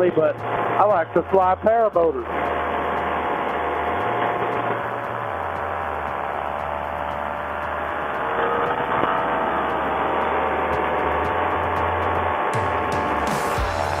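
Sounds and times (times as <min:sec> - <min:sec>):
paramotor engine and propeller: 0:00.0 - 0:14.0.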